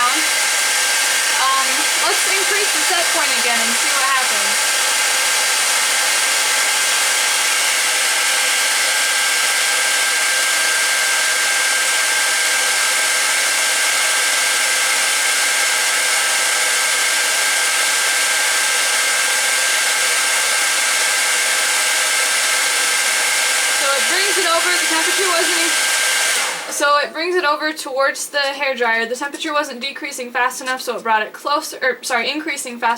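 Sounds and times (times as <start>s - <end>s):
hairdryer running: 0.0s - 27.3s.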